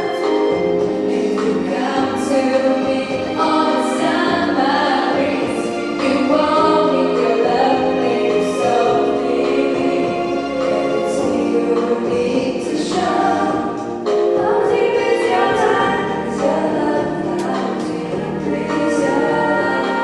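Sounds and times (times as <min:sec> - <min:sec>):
group of voices singing: 0:00.0 - 0:20.0
instrumental backing: 0:00.0 - 0:20.0.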